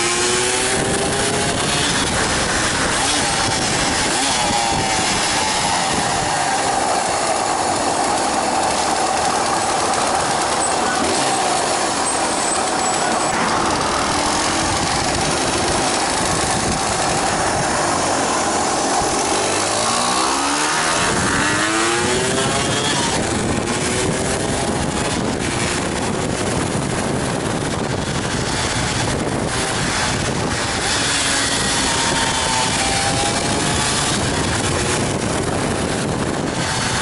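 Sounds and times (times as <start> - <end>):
two-stroke motorcycle engine: 0.0 - 37.0
wind noise: 0.0 - 37.0.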